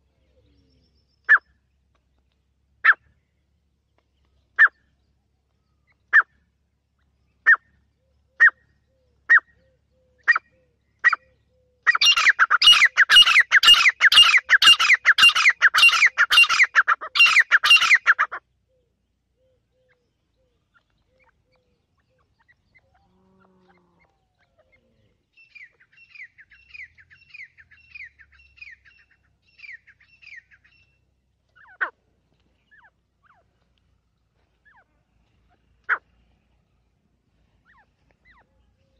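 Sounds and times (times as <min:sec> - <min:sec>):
bird calling: 0:04.4 - 0:38.9.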